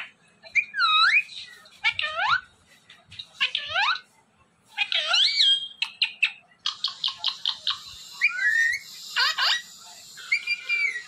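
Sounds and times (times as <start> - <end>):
parakeet whistles and squawks: 0.0 - 2.5, 3.2 - 4.1, 4.7 - 11.0.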